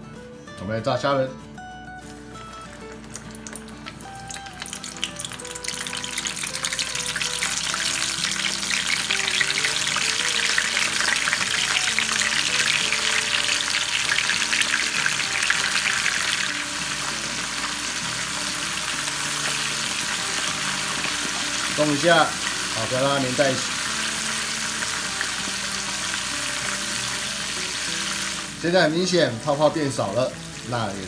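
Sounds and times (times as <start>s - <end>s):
shrimp deep-frying in hot oil: 2.0s - 31.0s.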